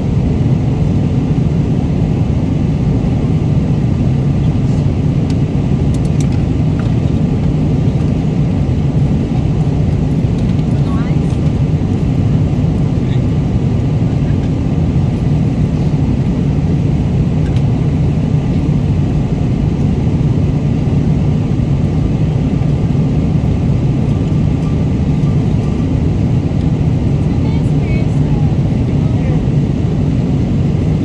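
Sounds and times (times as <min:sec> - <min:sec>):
airliner engines and airflow rumble: 0:00.0 - 0:31.0.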